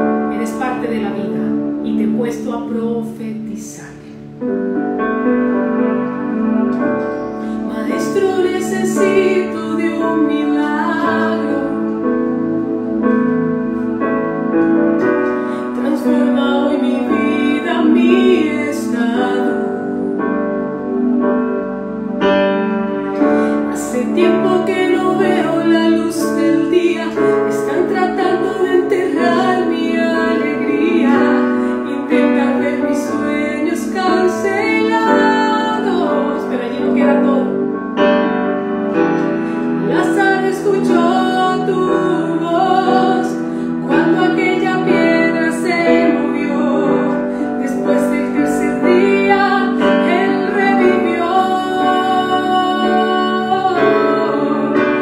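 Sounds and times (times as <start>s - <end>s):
woman singing worship song: 0.0s - 4.4s, 7.0s - 21.8s, 22.9s - 55.0s
piano accompaniment: 0.0s - 55.0s.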